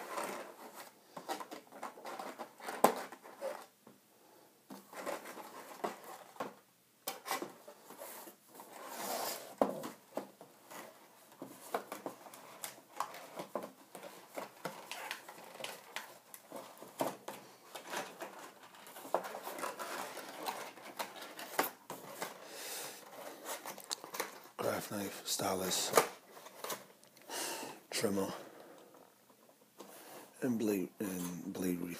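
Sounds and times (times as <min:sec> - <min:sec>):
packaging rustling: 0:00.0 - 0:03.8, 0:04.7 - 0:27.3.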